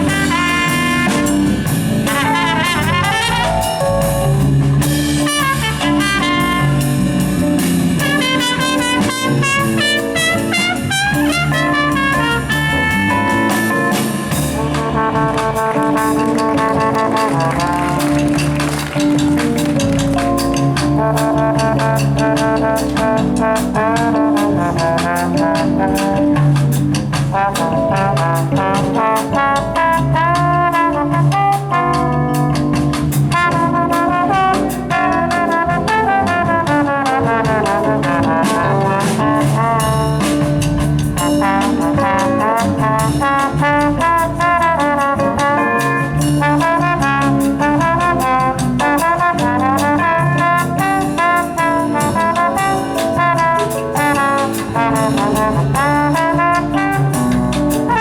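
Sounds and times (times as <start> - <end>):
bass line: 0.0 - 58.0
drum kit: 0.0 - 58.0
trombone melody: 0.0 - 58.0
trumpet melody: 0.0 - 58.0.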